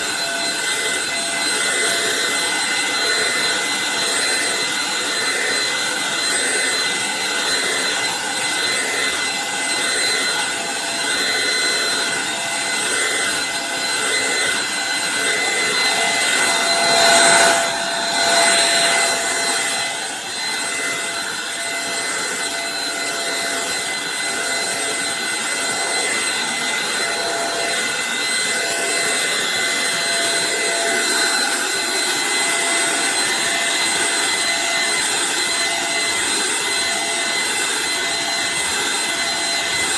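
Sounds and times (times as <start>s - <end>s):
stick vacuum running: 0.0s - 39.9s.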